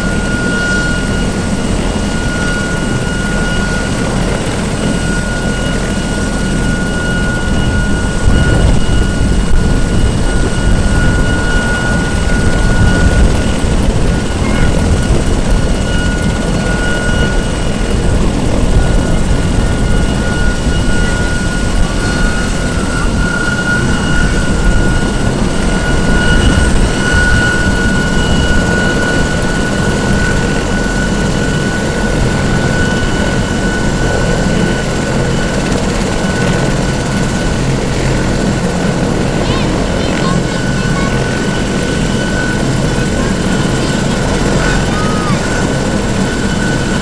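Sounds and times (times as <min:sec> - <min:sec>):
helicopter engine whine: 0:00.0 - 0:47.0.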